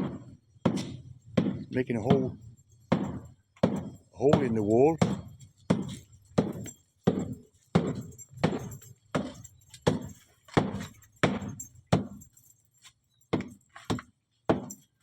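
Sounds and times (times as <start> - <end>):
hammer striking a wall: 0.0 - 12.4, 13.3 - 15.0.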